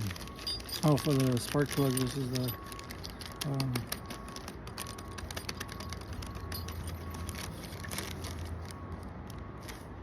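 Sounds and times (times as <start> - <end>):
light clicks and rustles: 0.0 - 9.9.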